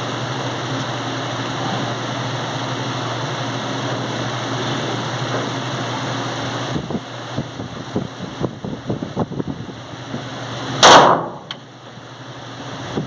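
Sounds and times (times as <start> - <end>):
mechanical fan hum: 0.0 - 13.0.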